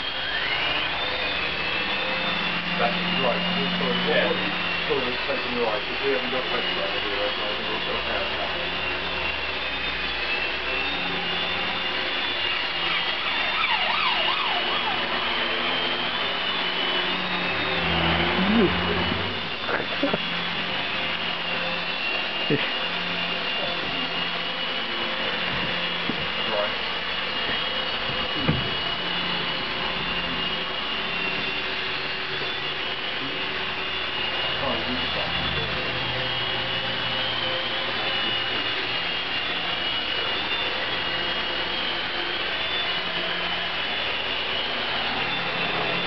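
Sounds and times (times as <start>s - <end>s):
toy helicopter motors whining: 0.0s - 46.0s.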